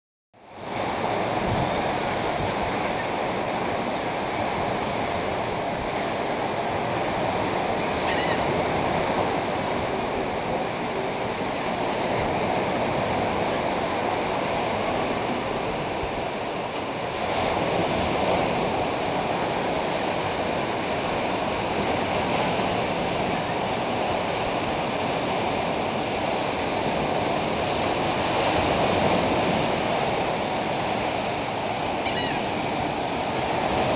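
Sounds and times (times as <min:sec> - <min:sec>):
surf breaking on beach: 0:00.5 - 0:33.9.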